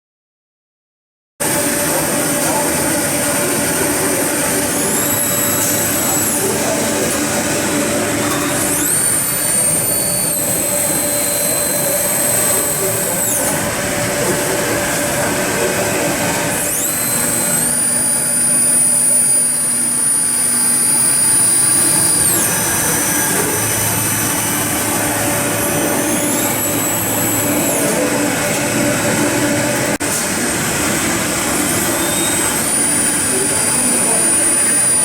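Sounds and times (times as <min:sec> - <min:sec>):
high machine whine: 0:01.4 - 0:35.0
lathe machine hum: 0:01.4 - 0:35.0.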